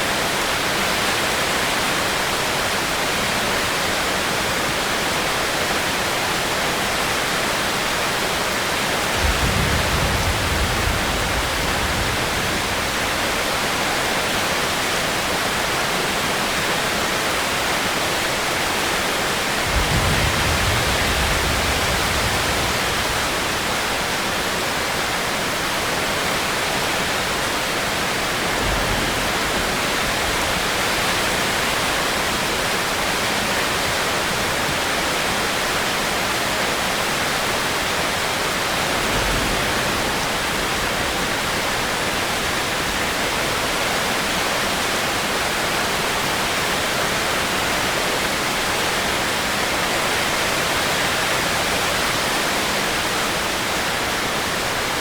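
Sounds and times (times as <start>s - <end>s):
steady dense rain: 0.0s - 55.0s.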